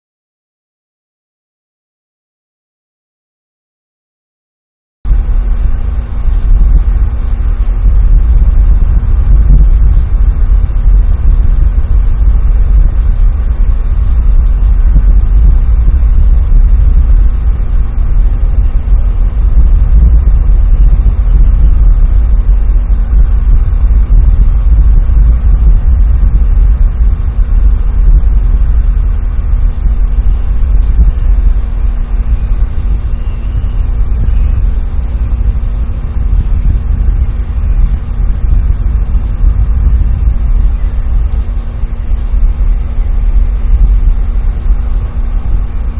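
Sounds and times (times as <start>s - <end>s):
faint steady hum: 5.1s - 45.9s
wind buffeting microphone: 5.1s - 45.9s.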